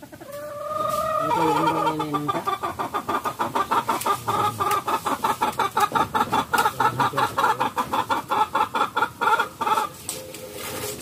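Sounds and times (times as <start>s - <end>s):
chicken clucking: 0.0s - 11.0s.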